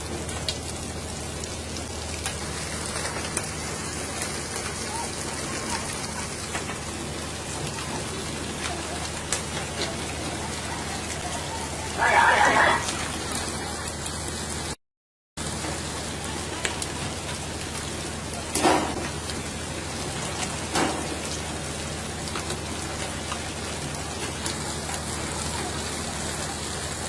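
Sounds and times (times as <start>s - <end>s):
water rushing along boat hull: 0.0s - 14.8s, 15.4s - 27.0s.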